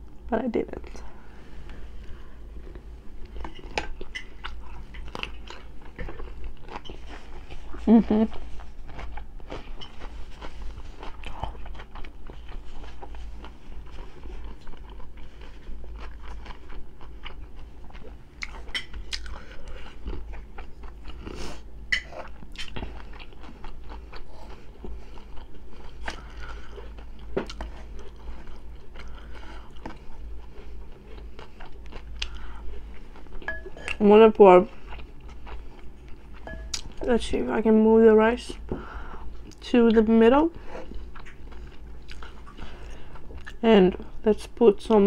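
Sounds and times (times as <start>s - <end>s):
chewing and crunching food: 1.6s - 45.0s.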